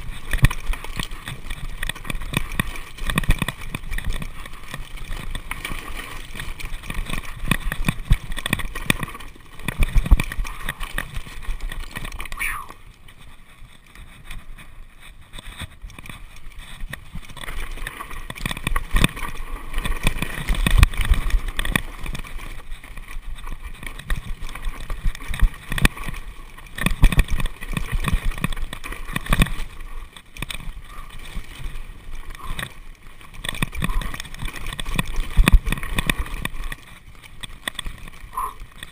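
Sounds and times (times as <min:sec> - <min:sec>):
bike knocks and rattles: 0:00.0 - 0:38.9
tyres rolling on dirt: 0:00.0 - 0:38.9.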